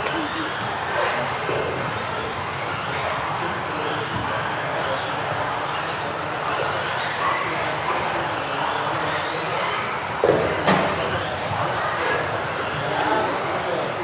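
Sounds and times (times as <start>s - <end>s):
electric rc car motors whining: 0.0s - 14.0s.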